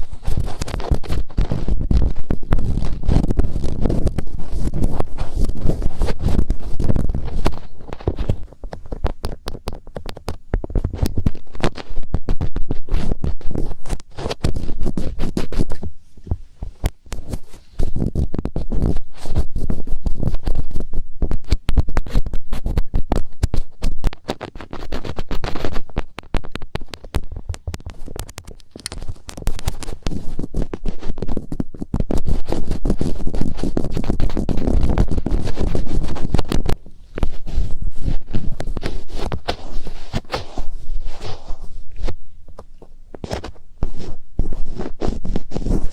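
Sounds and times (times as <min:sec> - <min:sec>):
fingertips rubbing on microphone: 0:00.0 - 0:45.9.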